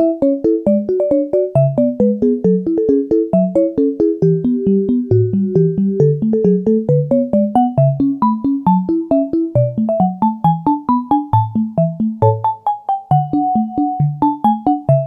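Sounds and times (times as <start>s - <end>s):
electric piano tune: 0.0s - 15.0s.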